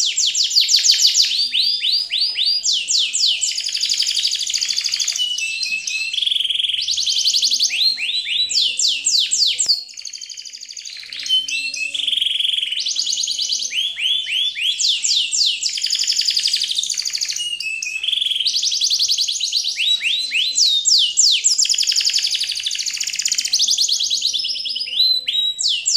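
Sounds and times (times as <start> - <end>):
songbird chirps and trills: 0.0 - 25.9.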